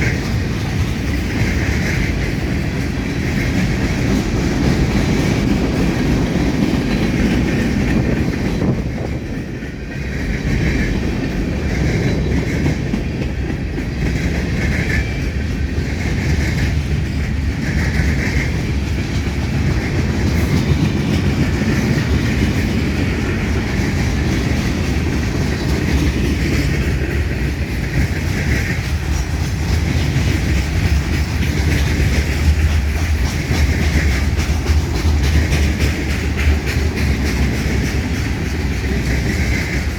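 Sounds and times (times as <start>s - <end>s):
freight train rumbling past: 0.0s - 39.9s
wheels clacking over track: 0.0s - 39.9s.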